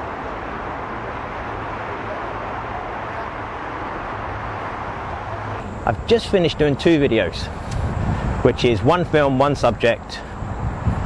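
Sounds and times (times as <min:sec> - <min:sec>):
distant traffic hum: 0:00.0 - 0:11.0.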